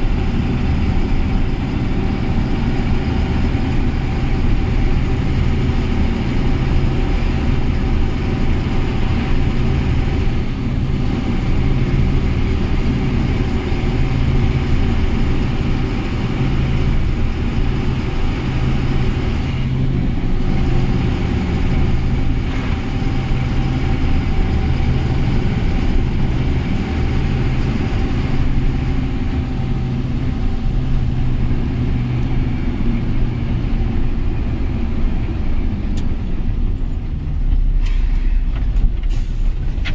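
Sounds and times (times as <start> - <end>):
road and tyre noise: 0.0 - 39.9
truck diesel engine running: 0.0 - 39.9.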